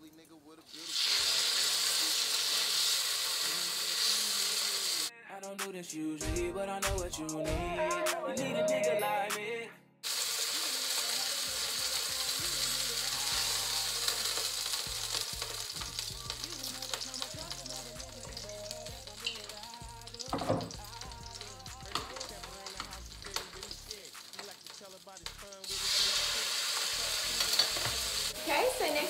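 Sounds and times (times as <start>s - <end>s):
rap music: 0.0s - 2.2s, 5.1s - 9.8s, 10.5s - 29.0s
meat sizzling in a pot: 0.7s - 5.1s, 10.0s - 29.0s.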